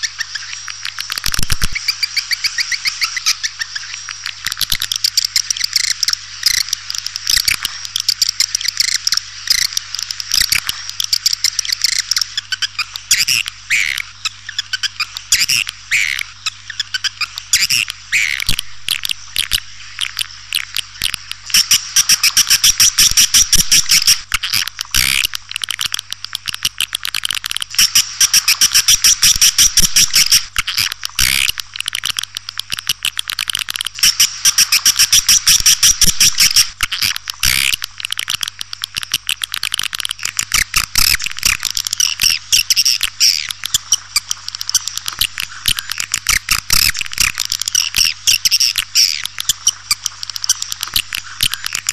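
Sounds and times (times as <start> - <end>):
high twittering chirps and clicks: 0.0 - 51.9
recorded swiftlet calls: 0.0 - 51.9
steady low hum: 0.0 - 51.9.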